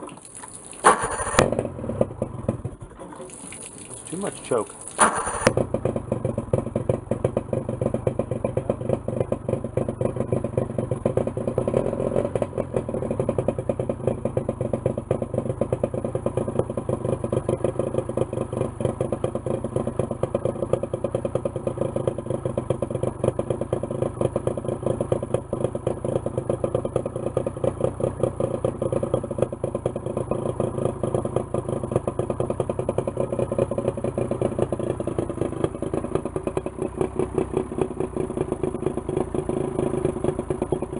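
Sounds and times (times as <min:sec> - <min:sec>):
outboard motor running: 0:00.0 - 0:40.9.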